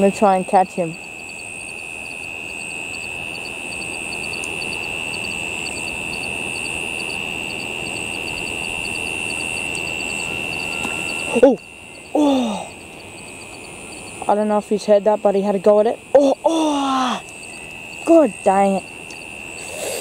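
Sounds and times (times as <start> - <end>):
insect high-pitched trill: 0.0 - 20.0.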